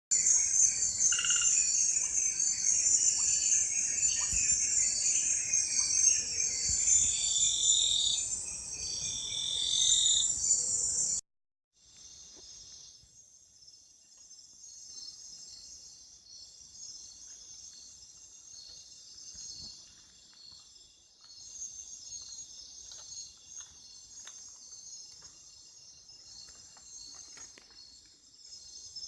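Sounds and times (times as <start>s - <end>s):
insects buzzing and trilling: 0.2s - 11.2s, 11.8s - 29.0s.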